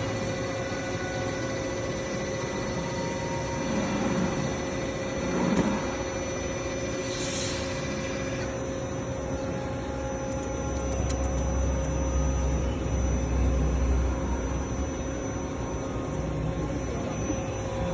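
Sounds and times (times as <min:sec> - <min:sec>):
machine humming and whining: 0:00.0 - 0:17.9.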